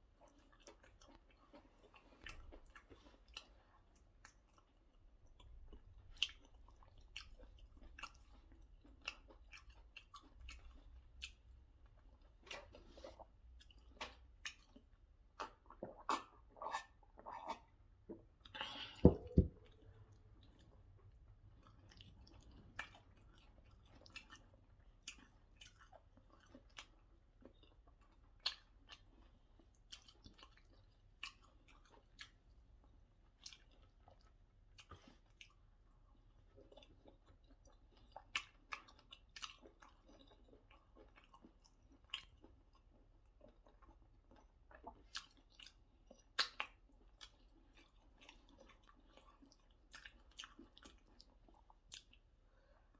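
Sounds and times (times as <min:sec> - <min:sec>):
person chewing with wet smacks: 0:00.0 - 0:52.9.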